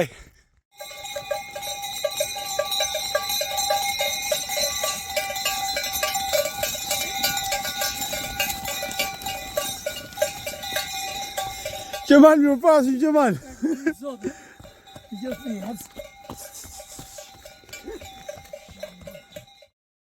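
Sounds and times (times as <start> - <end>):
livestock bells clanking: 0.7 - 19.7.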